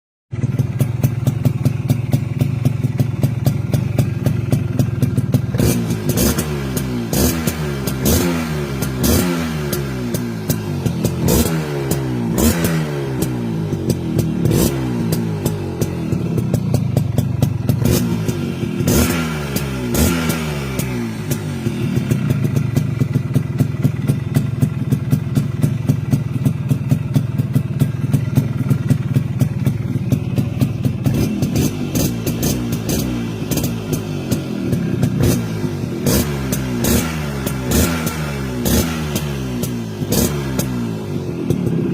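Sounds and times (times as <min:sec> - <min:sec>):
two-stroke engine idling and revving: 0:00.3 - 0:41.9.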